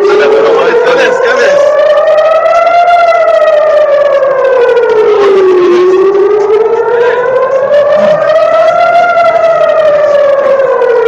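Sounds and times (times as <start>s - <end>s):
air-raid siren wailing: 0.0s - 11.0s.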